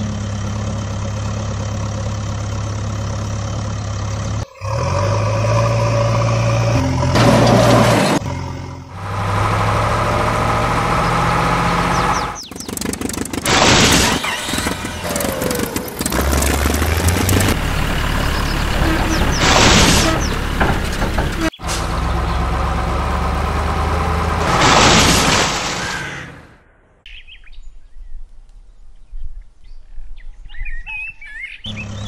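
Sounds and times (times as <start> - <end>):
truck engine drone: 0.0 - 27.0, 31.6 - 32.0.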